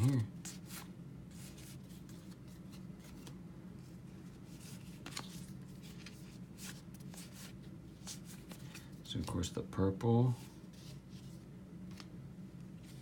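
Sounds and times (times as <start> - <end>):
cards rustling and sliding: 0.0 - 9.5, 10.2 - 12.2, 12.8 - 13.0.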